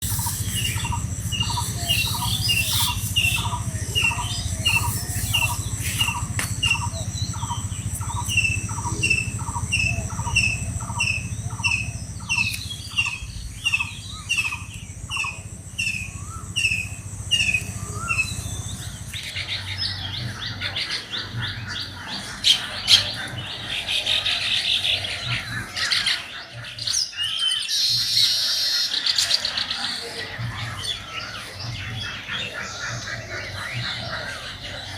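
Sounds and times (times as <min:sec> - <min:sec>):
chatter of high bird chirps: 0:00.0 - 0:34.9.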